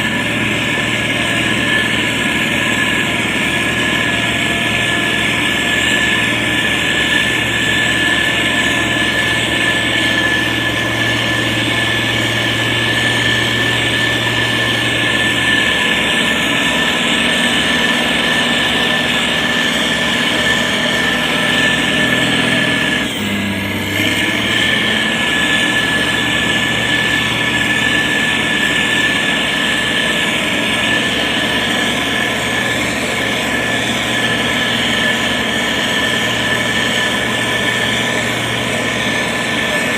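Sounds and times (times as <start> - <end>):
diesel engine running: 0.0 - 39.9
high whine: 0.0 - 39.9.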